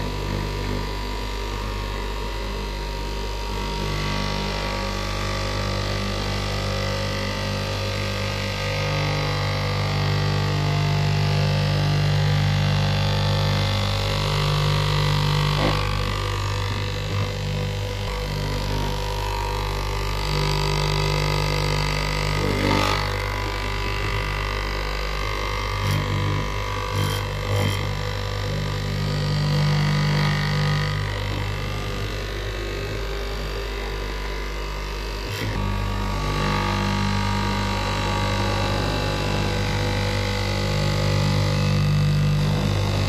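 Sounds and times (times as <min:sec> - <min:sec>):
cloth cutting machine humming: 0:00.0 - 0:43.0.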